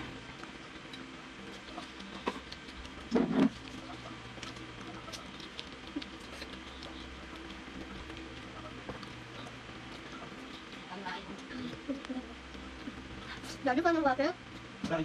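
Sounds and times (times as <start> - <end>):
children chewing: 0.0 - 13.7.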